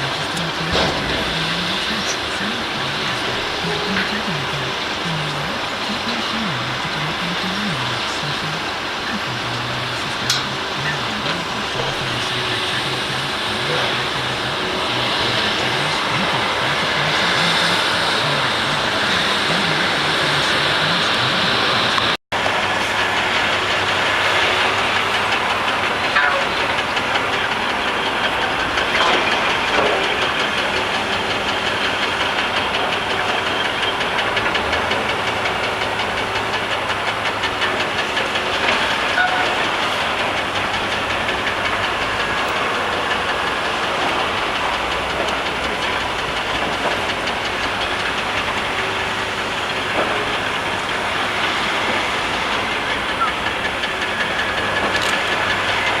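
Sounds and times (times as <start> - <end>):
excavator engine and hydraulics: 0.0 - 56.0.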